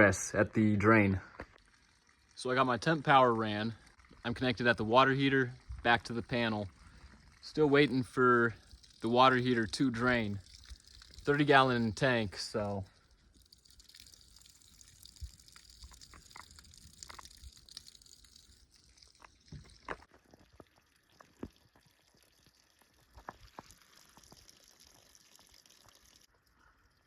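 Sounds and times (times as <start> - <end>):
faint water trickle: 0.5 - 27.0
water drips: 1.1 - 27.0.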